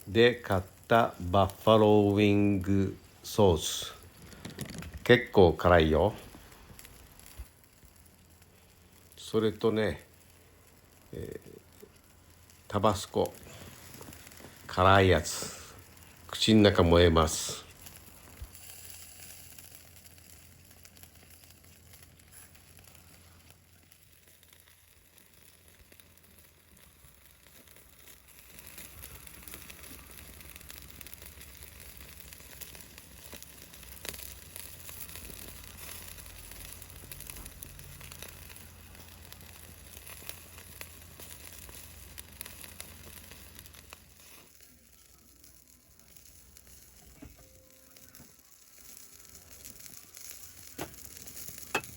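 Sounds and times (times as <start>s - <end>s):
chicken wings sizzling on grill: 0.0s - 51.9s.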